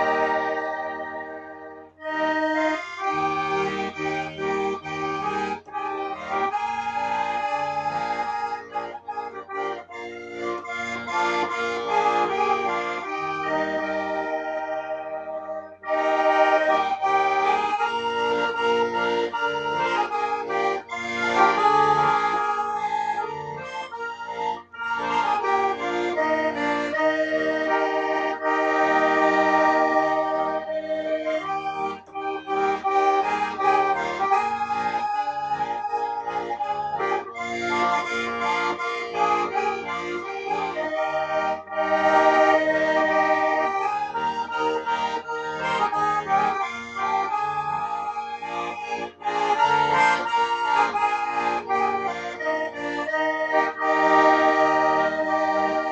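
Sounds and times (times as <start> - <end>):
accordion music: 0.0 - 55.9.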